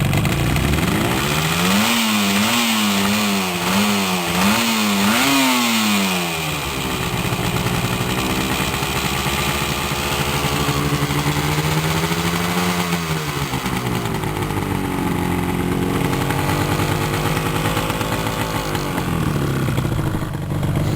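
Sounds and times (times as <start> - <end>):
two-stroke motorcycle engine revving: 0.0 - 20.9.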